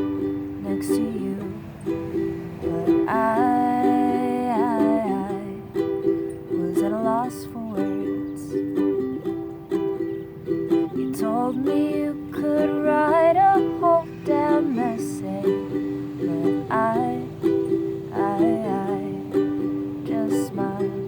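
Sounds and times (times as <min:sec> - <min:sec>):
sliding melody: 0:00.0 - 0:21.0
ukulele strumming chords: 0:00.0 - 0:21.0.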